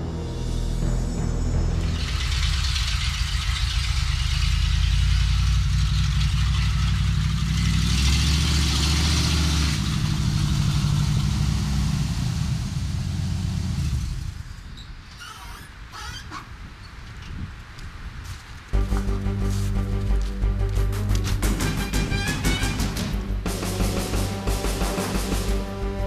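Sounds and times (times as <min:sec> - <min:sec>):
car engine running: 0:00.0 - 0:14.3, 0:18.8 - 0:26.0
tyres on gravel road: 0:00.0 - 0:26.0.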